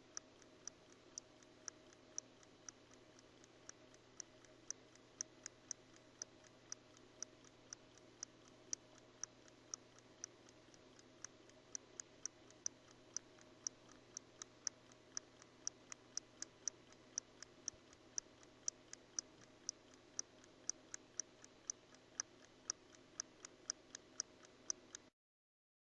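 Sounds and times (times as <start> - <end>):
pocket watch ticking: 0.0 - 25.1.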